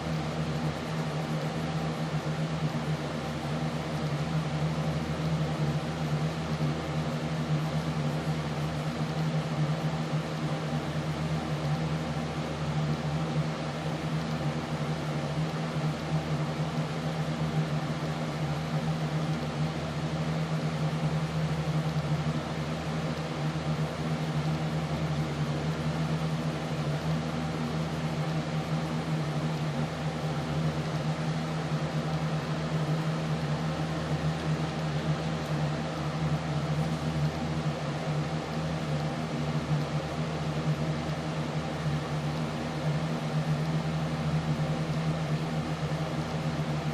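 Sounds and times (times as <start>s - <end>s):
mechanical hum with hiss: 0.0s - 46.9s.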